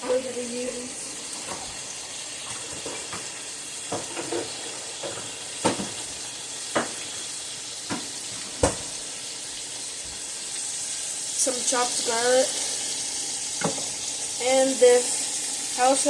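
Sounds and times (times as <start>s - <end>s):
steaks sizzling in a frying pan: 0.0s - 16.0s.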